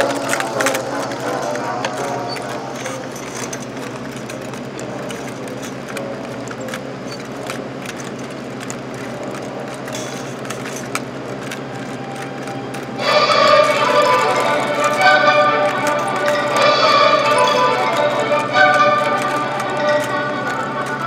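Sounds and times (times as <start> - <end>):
mechanical clicking and rattling: 0.0 - 21.0
steady low hum: 0.0 - 21.0.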